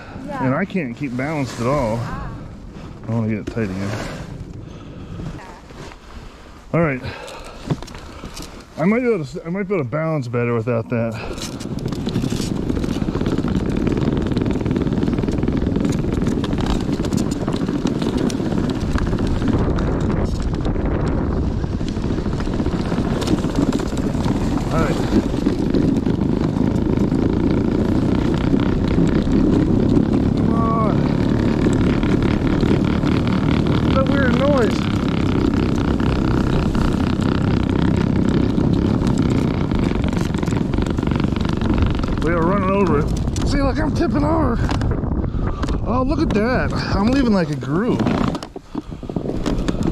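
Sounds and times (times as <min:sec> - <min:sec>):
sled scraping over snow: 0:00.0 - 0:49.9.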